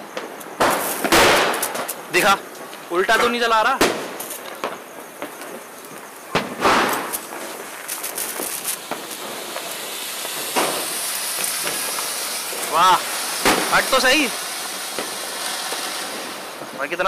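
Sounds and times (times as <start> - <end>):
firecracker bangs: 0.0 - 5.7, 6.3 - 17.0
firework fountain hissing: 0.0 - 17.0.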